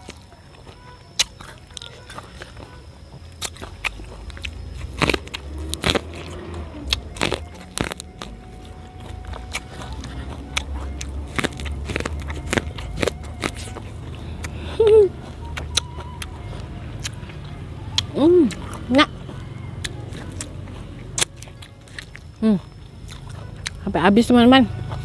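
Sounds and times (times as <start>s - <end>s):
chewing corn kernels crunching: 0.0s - 25.0s
low steady rumble: 0.0s - 25.0s.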